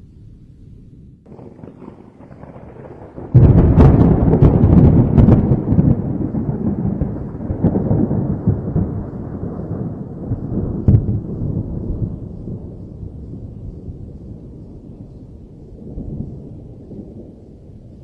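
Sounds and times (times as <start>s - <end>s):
thunderclap with low rumble: 0.0s - 18.0s.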